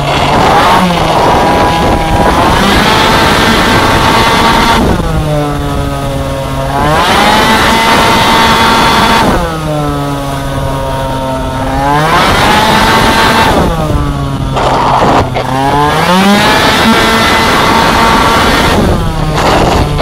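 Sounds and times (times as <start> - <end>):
two-stroke scooter engine revving: 0.0 - 20.0.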